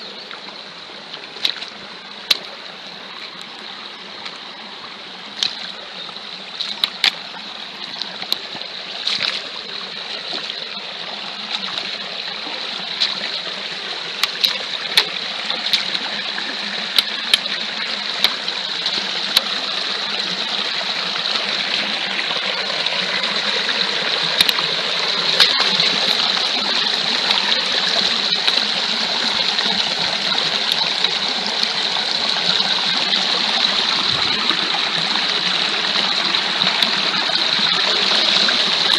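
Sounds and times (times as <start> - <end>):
boots splashing through water: 0.0 - 4.6, 5.2 - 20.0, 21.2 - 38.9
stream rushing over rocks: 0.0 - 38.9.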